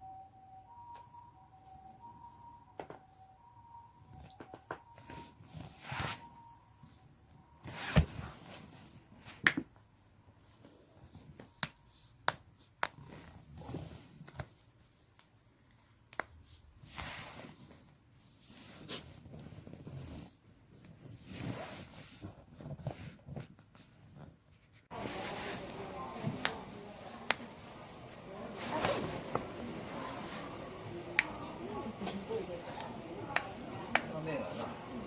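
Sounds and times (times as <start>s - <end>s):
soft rustling: 5.0s - 35.0s.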